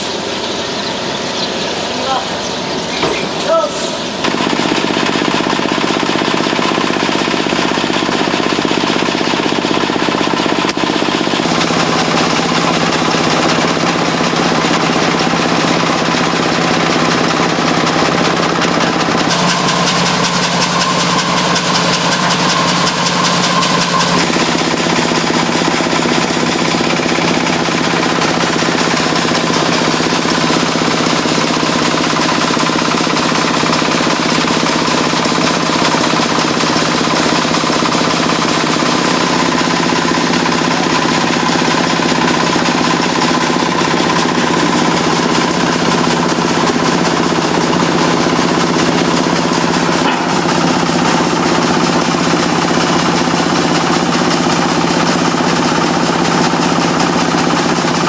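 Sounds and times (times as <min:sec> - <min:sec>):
rice thresher engine droning: 0:00.0 - 0:58.0.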